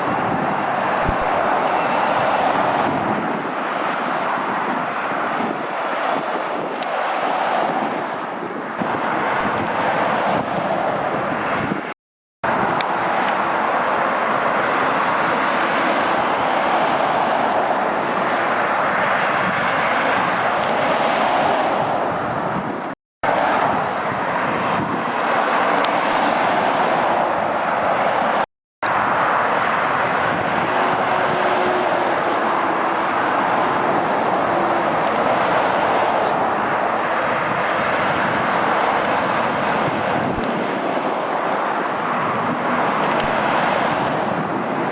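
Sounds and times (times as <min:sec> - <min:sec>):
traffic passing at speed: 0:00.0 - 0:44.9.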